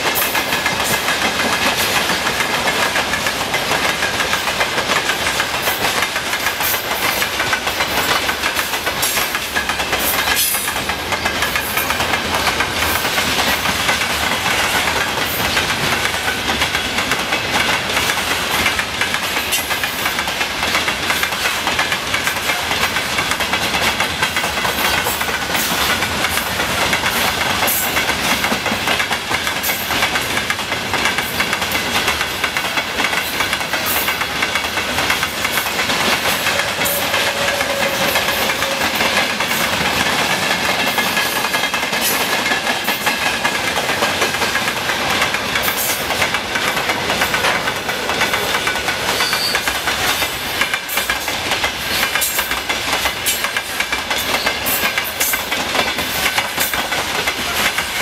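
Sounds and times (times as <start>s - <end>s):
freight train rolling noise: 0.0s - 58.0s
train wheels clacking over rail joints: 0.0s - 58.0s.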